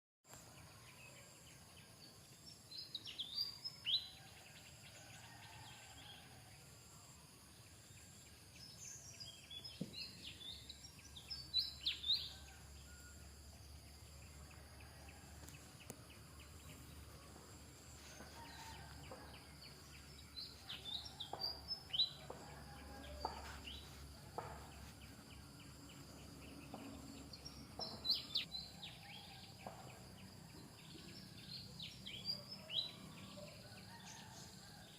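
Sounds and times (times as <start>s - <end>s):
faint outdoor background hiss: 0.3s - 34.9s.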